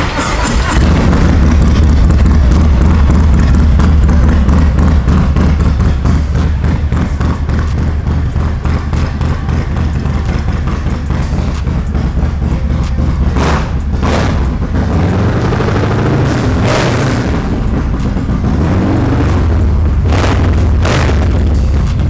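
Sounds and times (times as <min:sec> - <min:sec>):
motorcycle engine idling and revving: 0:00.0 - 0:22.0
sharp exhaust blasts: 0:00.0 - 0:22.0.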